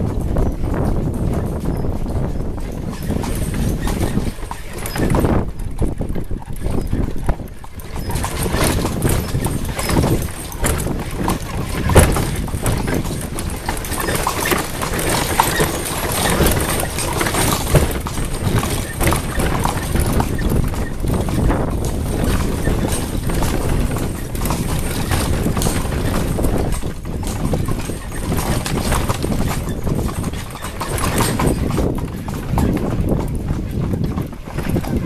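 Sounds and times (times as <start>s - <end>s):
horse hooves clip-clopping on dirt: 0.0s - 35.0s.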